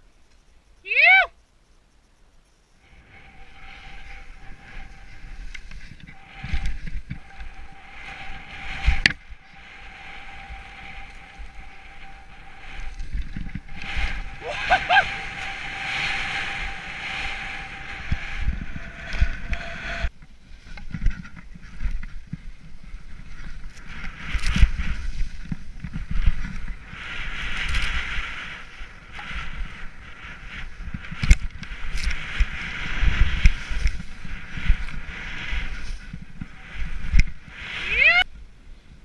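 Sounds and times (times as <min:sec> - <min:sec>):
skis hissing through snow: 0:02.8 - 0:20.8, 0:21.6 - 0:38.2
wind rushing over microphone: 0:02.8 - 0:39.0.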